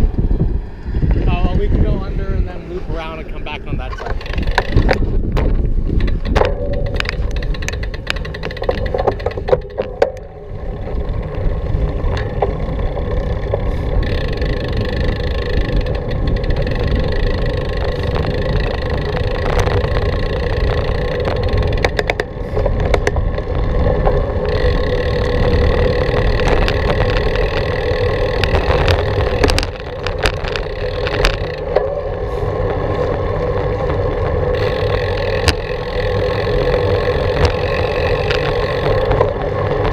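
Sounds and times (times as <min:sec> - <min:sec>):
bicycle clicks and rattles: 0:00.0 - 0:39.9
bicycle tyres rumbling: 0:00.0 - 0:39.9.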